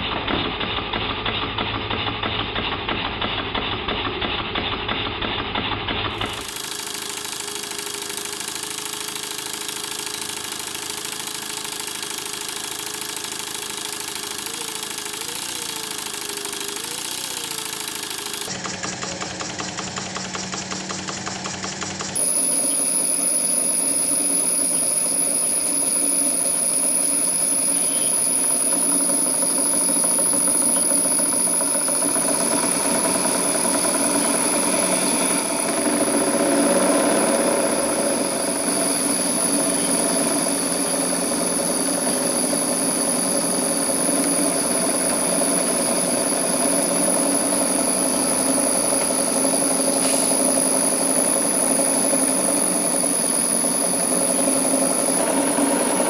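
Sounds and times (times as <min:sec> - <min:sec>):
miniature steam engine running: 0:00.0 - 0:56.0.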